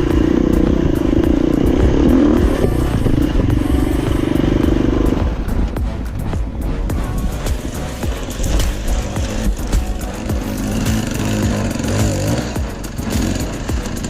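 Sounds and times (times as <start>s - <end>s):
dirt bike engine buzzing: 0.0s - 14.0s
rumble and clatter from ride: 0.0s - 14.0s.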